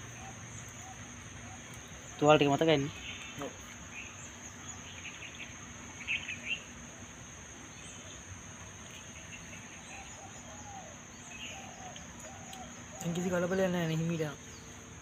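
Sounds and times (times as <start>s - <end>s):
bird chirps: 0.0s - 6.8s, 7.6s - 15.0s.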